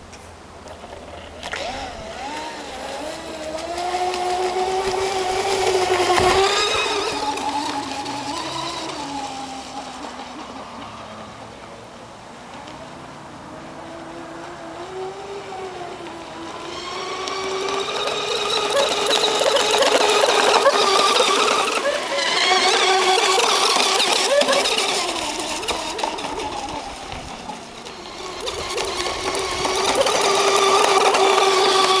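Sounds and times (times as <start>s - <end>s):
model boat motor whine: 0.0s - 32.0s.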